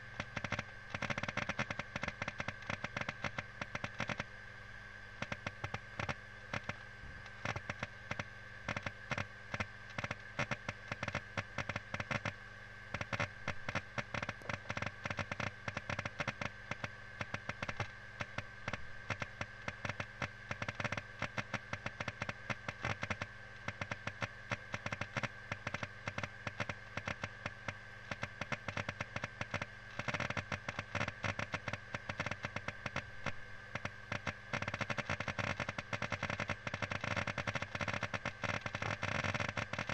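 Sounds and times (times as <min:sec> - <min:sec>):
hard disk clicking and crackling: 0:00.0 - 0:39.9
hard disk high whine: 0:00.0 - 0:39.9.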